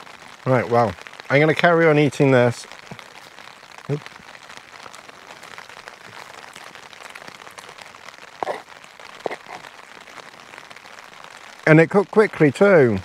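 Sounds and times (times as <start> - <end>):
rain pattering on fabric: 0.0 - 13.0.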